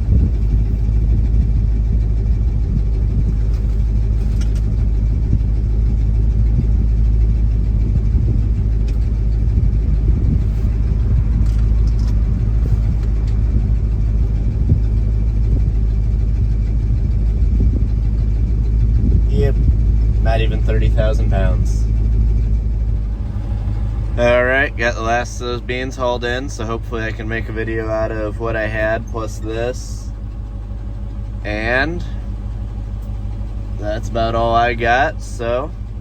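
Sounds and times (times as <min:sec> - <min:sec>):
truck engine rumbling: 0:00.0 - 0:36.0.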